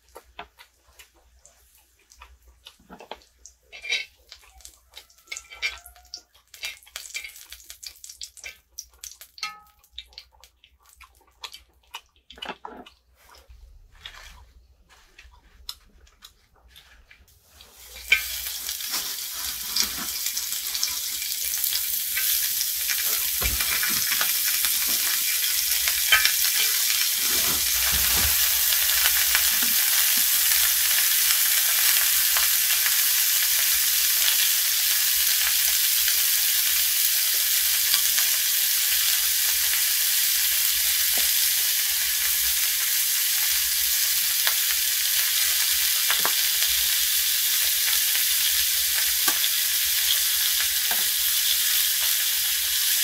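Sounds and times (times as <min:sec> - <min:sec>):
pork sizzling in a pan: 0:01.4 - 0:10.9, 0:17.4 - 0:53.0.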